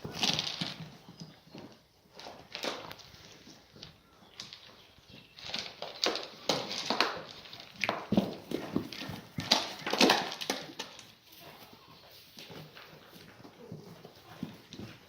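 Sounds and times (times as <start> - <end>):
hooves clattering: 0.0 - 15.0.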